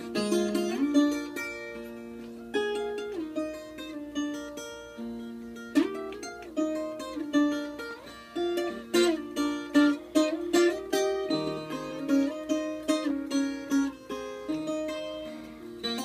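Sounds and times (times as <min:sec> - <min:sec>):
picked guitar melody: 0:00.0 - 0:16.0.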